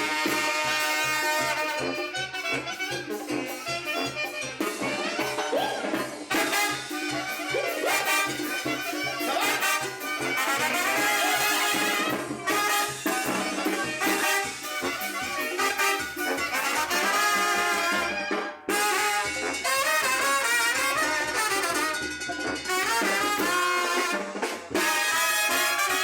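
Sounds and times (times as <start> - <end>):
brass latin dance music: 0.0 - 26.0.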